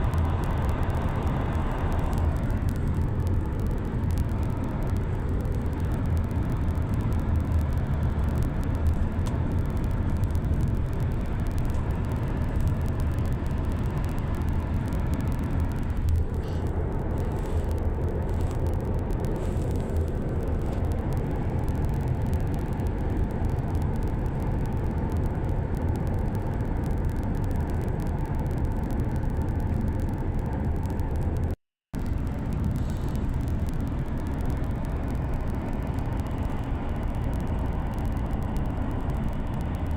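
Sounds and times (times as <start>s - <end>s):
low rumble of moving vehicle: 0.0s - 39.9s.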